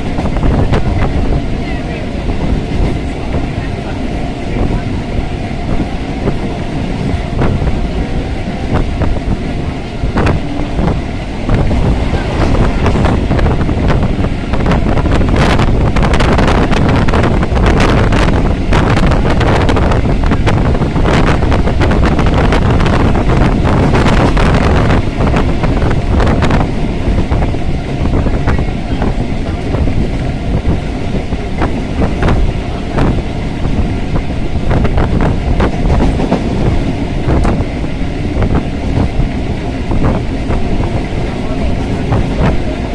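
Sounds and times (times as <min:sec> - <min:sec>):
train wheels rumbling on rails: 0:00.0 - 0:42.9
wind buffeting microphone: 0:00.0 - 0:42.9
rapid clacking and rattling: 0:02.0 - 0:42.9.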